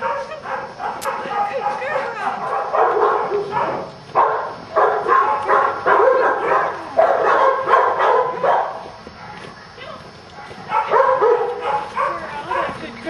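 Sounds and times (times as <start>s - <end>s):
dog barking: 0.0s - 9.7s, 10.4s - 12.8s.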